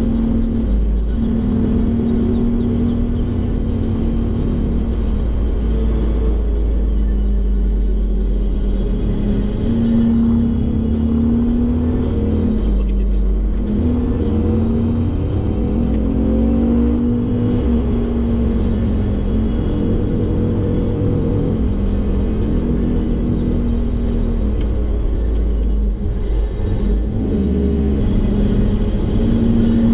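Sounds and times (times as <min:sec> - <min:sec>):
background music: 0:00.0 - 0:29.9
truck engine rumbling: 0:00.0 - 0:29.9.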